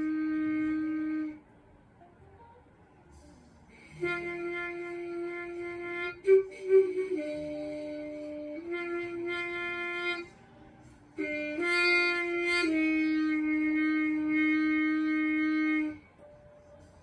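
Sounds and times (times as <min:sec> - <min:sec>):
muted trumpet slow melody: 0:00.0 - 0:01.6, 0:03.3 - 0:17.0.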